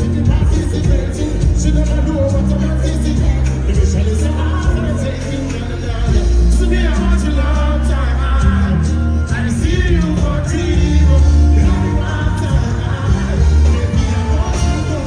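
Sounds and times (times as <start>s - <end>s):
loud live dance music: 0.0s - 15.0s
person singing into microphone: 0.0s - 15.0s.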